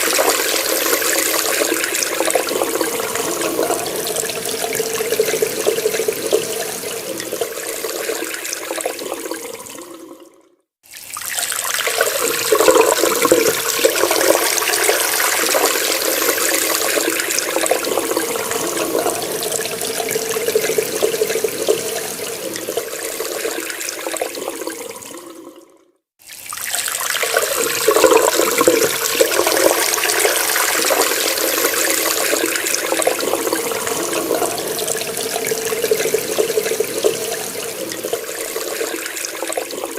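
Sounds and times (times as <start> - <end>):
water running from a tap: 0.0 - 25.6, 26.2 - 39.9.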